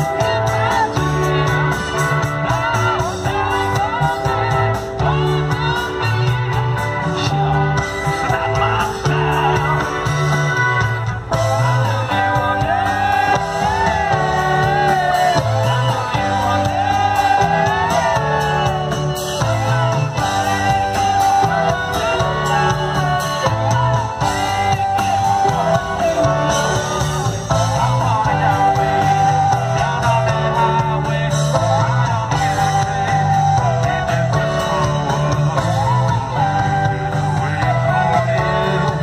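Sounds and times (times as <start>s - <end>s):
live rock band playing loudly: 0.0s - 39.0s.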